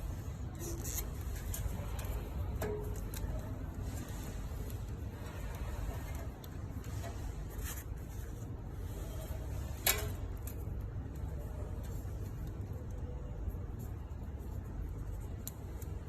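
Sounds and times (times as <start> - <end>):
steady low rumble: 0.0 - 16.0
cable ties clicking: 0.1 - 8.4, 9.1 - 13.1, 13.8 - 16.0.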